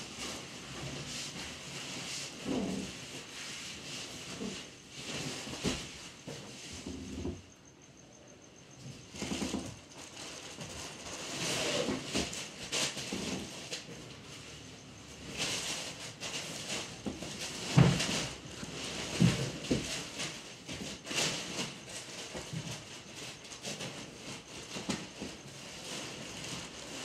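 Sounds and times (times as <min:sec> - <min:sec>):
soft rustling and scraping: 0:00.0 - 0:27.0.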